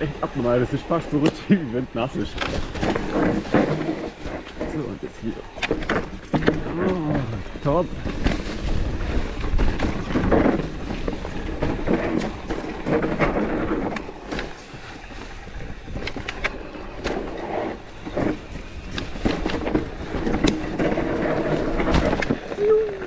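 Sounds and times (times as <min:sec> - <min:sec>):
bike rattling over bumps: 0:00.0 - 0:23.0
tyres on loose dirt: 0:00.0 - 0:23.0.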